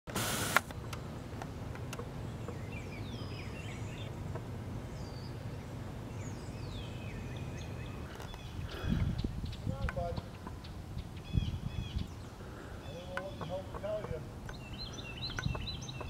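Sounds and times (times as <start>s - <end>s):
low background noise: 0.1s - 16.0s
birds whistling and chirping: 2.2s - 16.0s.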